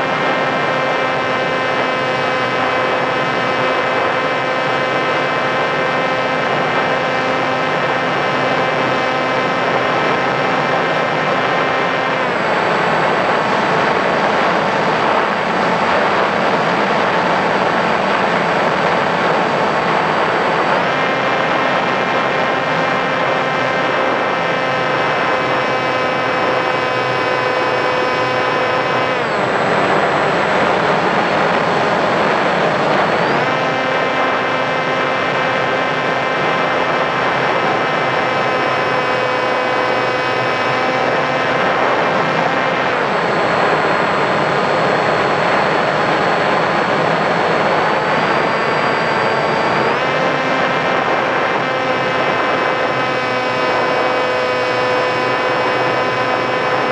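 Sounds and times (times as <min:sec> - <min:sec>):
electric motor and propeller whine: 0:00.0 - 0:56.9.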